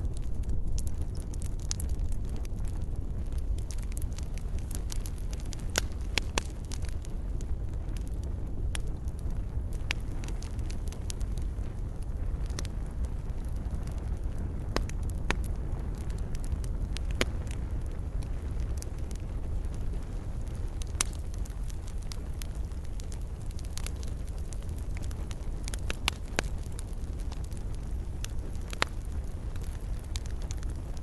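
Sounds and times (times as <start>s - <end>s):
fire popping and snapping: 0.0s - 31.0s
flames rumbling: 0.0s - 31.0s.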